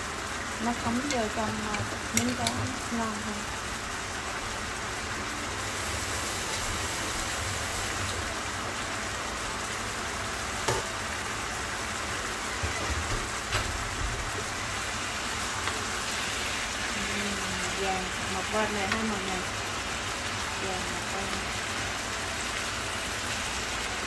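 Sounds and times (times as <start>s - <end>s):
fish sizzling in frying pan: 0.0s - 24.0s.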